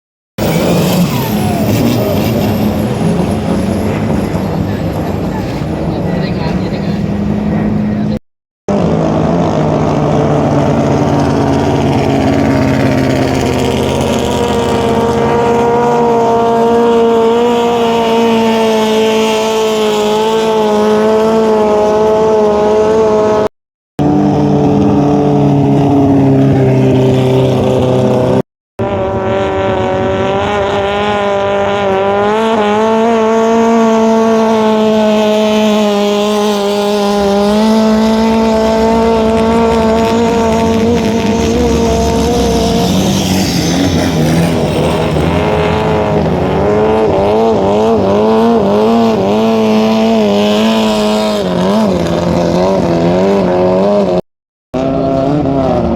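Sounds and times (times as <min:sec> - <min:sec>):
racing boat engine at high revs: 0:00.4 - 0:55.9.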